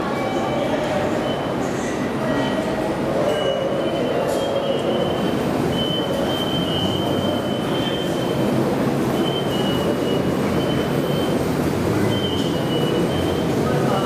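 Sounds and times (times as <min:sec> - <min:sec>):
electric train rumbling: 0:00.0 - 0:14.0
high squeal of train: 0:00.0 - 0:14.0.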